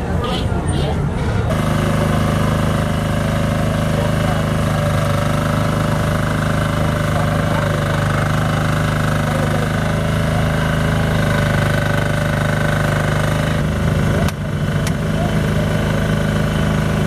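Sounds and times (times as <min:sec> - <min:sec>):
small engine running: 0:00.8 - 0:17.0.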